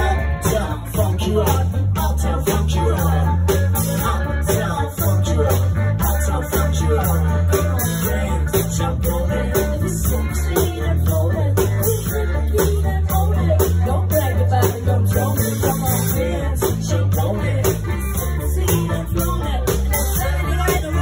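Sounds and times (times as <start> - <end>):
live band playing upbeat song: 0.0 - 21.0
pulsing bass line: 0.0 - 21.0
steady drum beat: 0.0 - 21.0.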